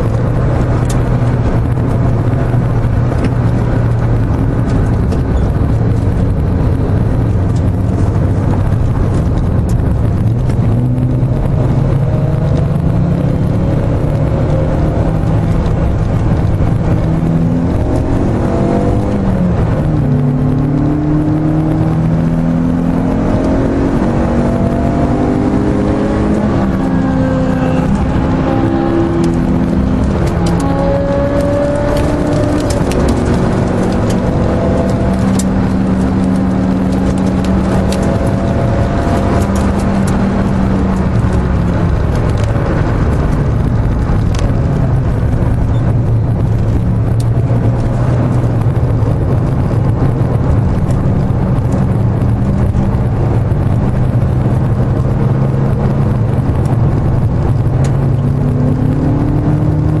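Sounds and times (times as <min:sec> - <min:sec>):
car engine from inside cabin: 0:00.0 - 1:00.0
road noise: 0:00.0 - 1:00.0.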